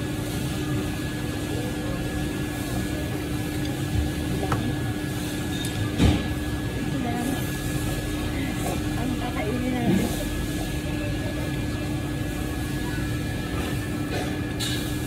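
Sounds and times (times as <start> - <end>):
restaurant dining room hum: 0.0 - 15.0.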